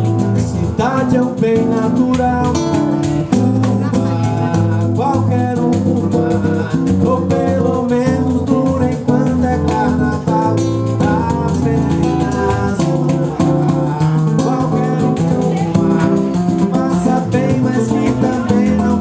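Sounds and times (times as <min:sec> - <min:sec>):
rattling plate percussion: 0:00.0 - 0:19.0
strummed acoustic guitar: 0:00.0 - 0:19.0.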